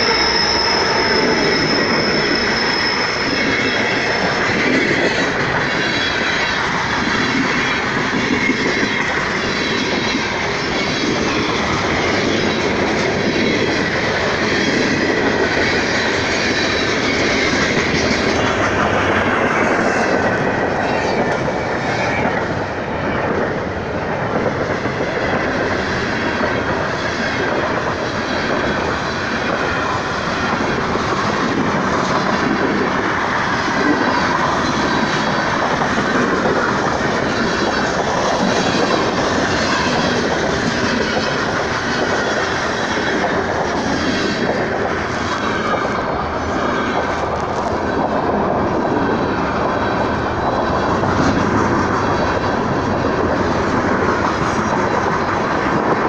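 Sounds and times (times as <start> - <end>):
train wheels running over rails: 0.0 - 56.0.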